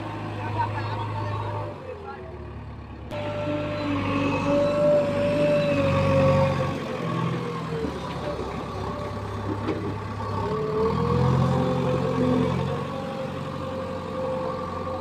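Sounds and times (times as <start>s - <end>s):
diesel machinery engine running: 0.0s - 15.0s.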